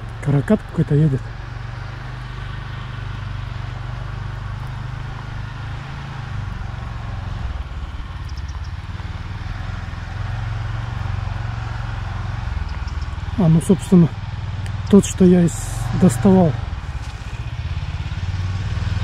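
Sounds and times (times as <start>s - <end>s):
all-terrain vehicle engine: 0.0s - 19.0s.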